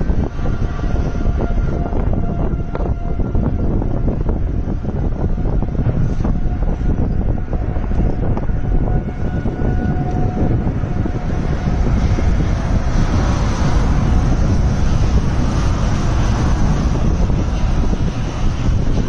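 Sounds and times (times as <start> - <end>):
storm wind buffeting microphone: 0.0 - 19.0.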